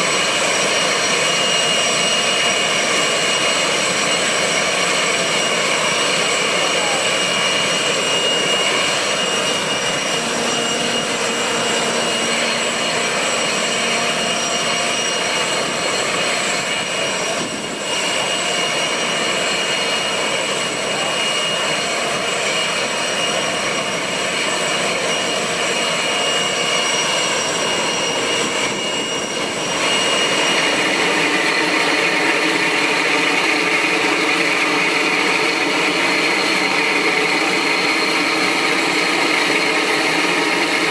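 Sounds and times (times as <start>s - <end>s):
high whining tones: 0.0s - 40.9s
jet engines running: 0.0s - 40.9s.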